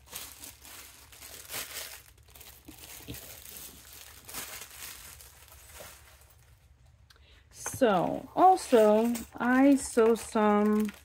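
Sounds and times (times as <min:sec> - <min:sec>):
packaging crinkling: 0:00.0 - 0:07.1, 0:08.4 - 0:11.0.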